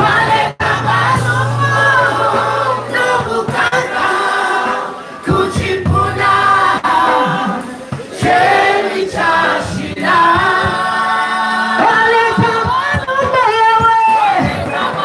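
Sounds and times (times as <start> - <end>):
backing singers: 0.0 - 15.0.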